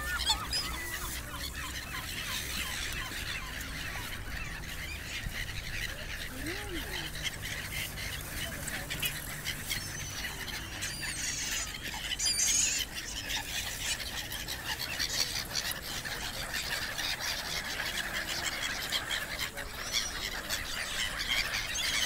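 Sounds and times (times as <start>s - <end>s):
gulls calling: 0.0s - 22.0s.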